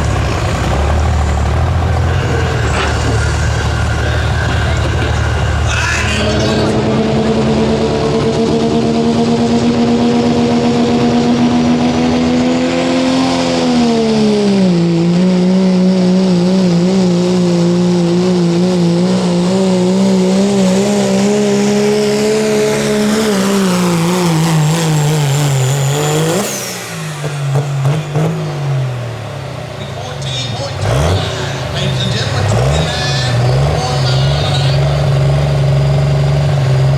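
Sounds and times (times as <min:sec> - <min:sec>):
diesel truck engine under load: 0:00.0 - 0:36.9.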